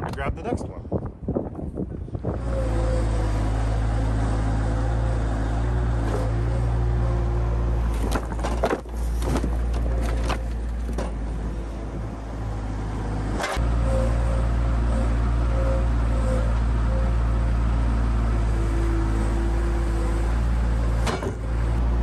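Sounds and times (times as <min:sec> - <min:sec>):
skid steer engine running: 0:02.1 - 0:22.0.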